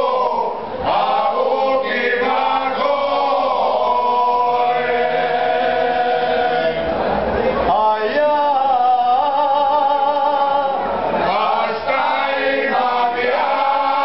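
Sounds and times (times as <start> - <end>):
men singing unaccompanied: 0.0 - 6.9, 7.7 - 14.0.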